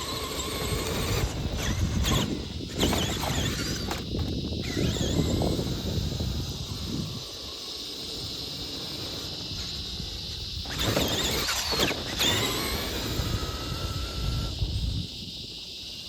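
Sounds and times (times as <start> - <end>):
toy truck electric motor whining: 0.0 - 9.8, 10.6 - 15.0.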